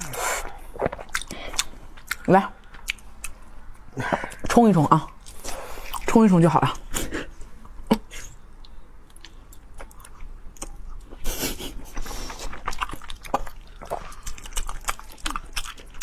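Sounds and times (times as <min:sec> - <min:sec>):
person chewing food: 0:00.0 - 0:04.5, 0:05.1 - 0:06.1, 0:07.9 - 0:16.0.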